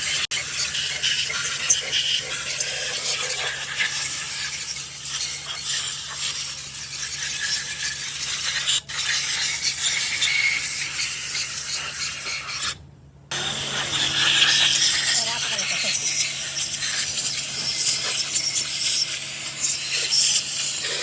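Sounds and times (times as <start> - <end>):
scratchy scrubbing of engine part: 0.0 - 21.0.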